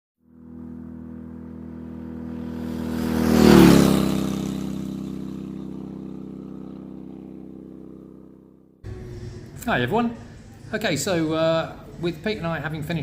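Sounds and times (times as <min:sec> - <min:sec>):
motorcycle passing by: 0:00.2 - 0:10.7.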